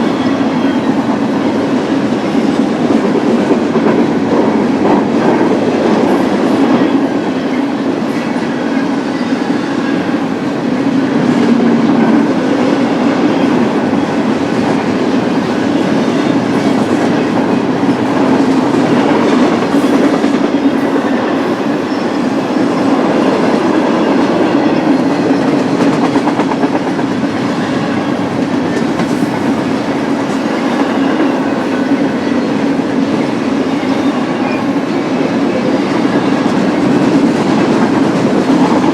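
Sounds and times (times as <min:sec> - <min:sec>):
freight train cars rolling past: 0:00.0 - 0:38.9.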